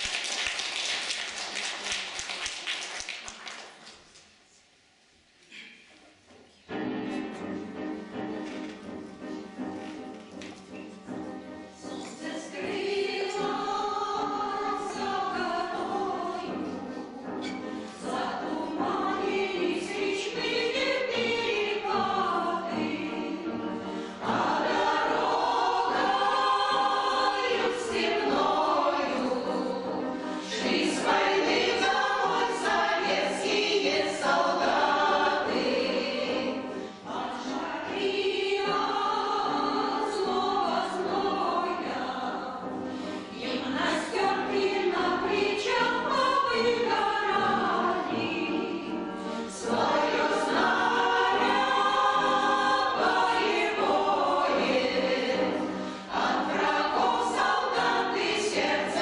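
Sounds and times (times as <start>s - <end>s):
choir singing: 10.7s - 59.0s.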